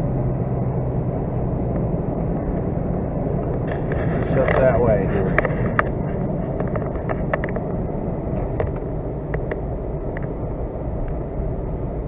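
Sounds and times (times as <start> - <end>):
truck engine and tyre rumble: 0.0 - 12.0
faint clicks: 0.4 - 11.8.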